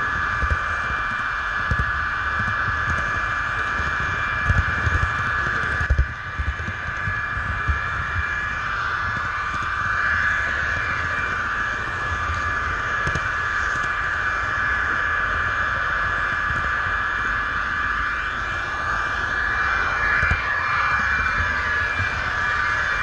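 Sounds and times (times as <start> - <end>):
model train motor whine: 0.0 - 23.0.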